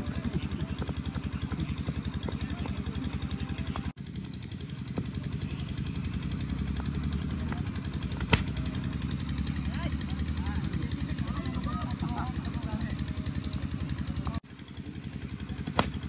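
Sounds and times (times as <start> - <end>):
engine puttering: 0.0 - 16.0.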